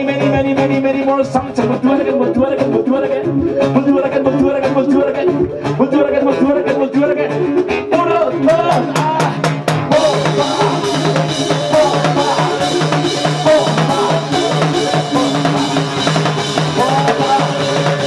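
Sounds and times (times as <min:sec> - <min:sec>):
drums on a steady beat: 0:00.0 - 0:18.0
live band playing: 0:00.0 - 0:18.0.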